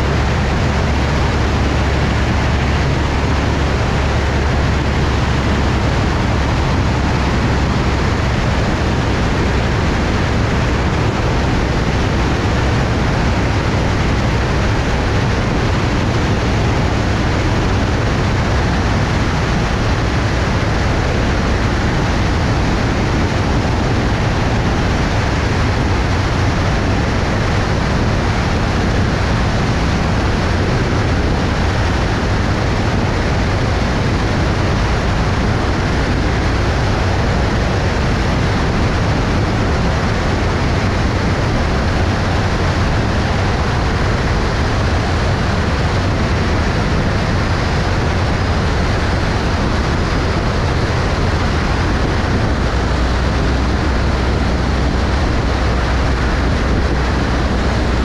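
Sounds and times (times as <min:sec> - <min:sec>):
airplane engine and propeller drone: 0:00.0 - 0:58.0
rush of air: 0:00.0 - 0:58.0.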